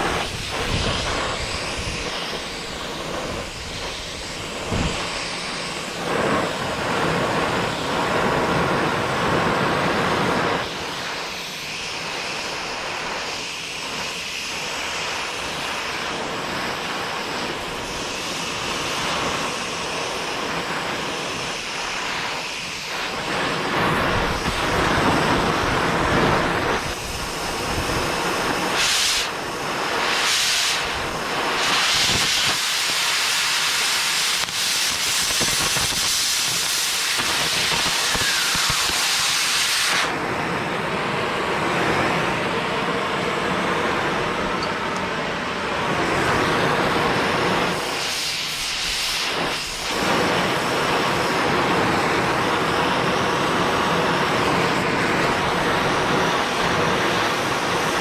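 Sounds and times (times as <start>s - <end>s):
cutting torch flame hissing: 0.0s - 58.0s.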